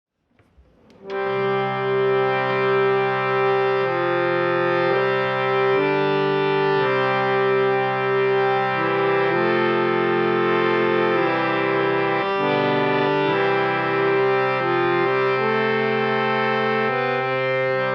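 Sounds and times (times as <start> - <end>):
harmonium playing chords: 0.8 - 17.9.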